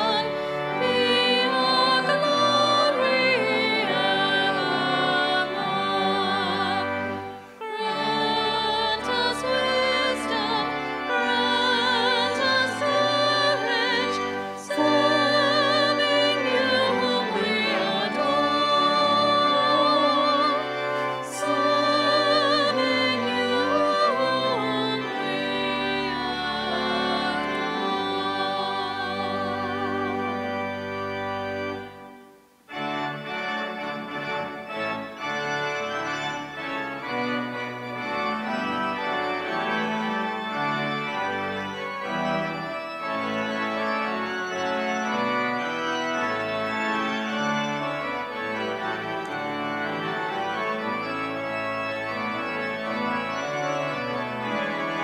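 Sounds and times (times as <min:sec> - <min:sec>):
church organ playing chords: 0:00.0 - 0:55.0.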